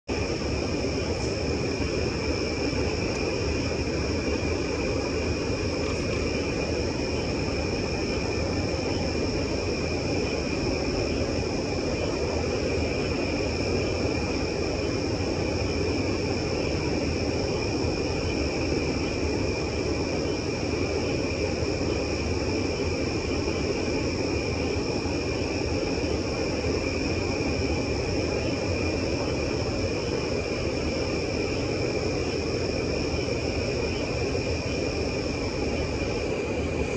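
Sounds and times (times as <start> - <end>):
night insects trilling: 0.1 - 36.9.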